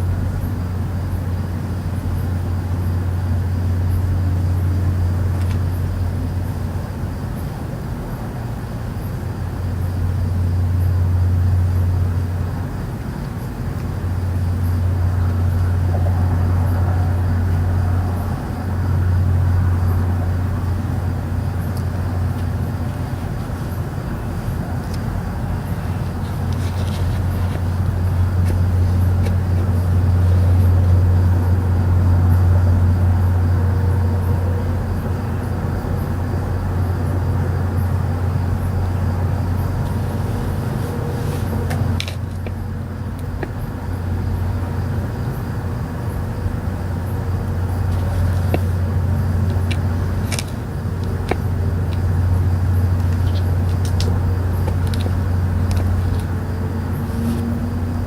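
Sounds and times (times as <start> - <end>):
loud low droning rumble: 0.0 - 58.0.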